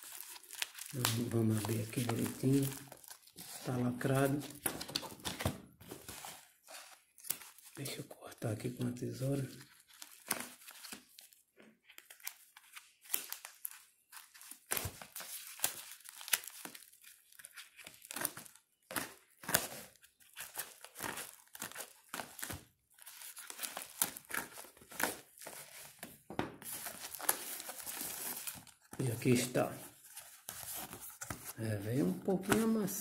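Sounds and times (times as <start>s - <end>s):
envelope crinkling: 0.0s - 7.9s, 9.2s - 33.0s.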